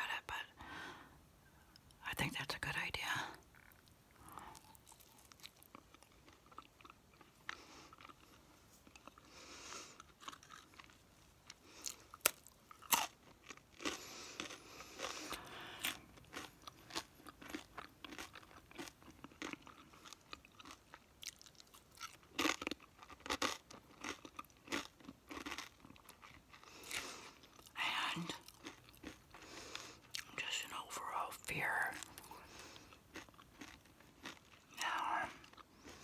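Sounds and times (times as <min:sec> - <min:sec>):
chewing and crunching food: 0:03.3 - 0:36.0.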